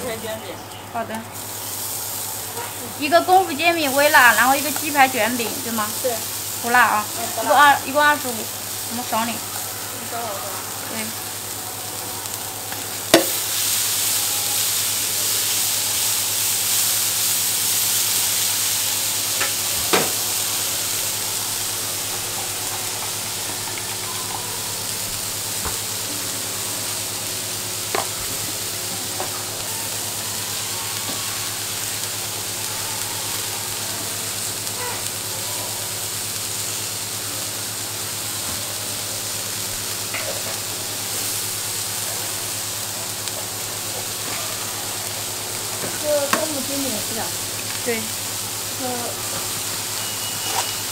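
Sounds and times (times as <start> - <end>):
food sizzling on a griddle: 0.0 - 50.9.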